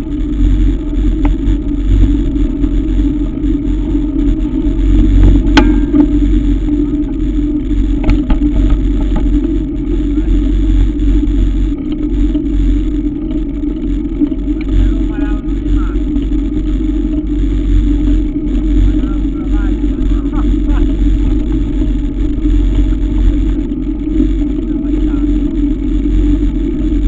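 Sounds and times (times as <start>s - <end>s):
bike tyre and drivetrain noise: 0.0s - 27.0s
wind rumble on microphone: 0.0s - 27.0s.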